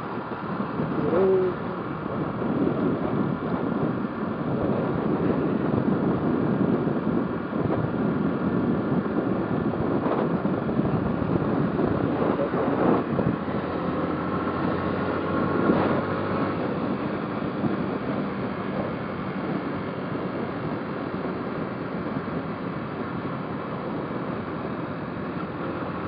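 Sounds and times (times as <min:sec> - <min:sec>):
wind rushing on microphone: 0:00.0 - 0:26.0.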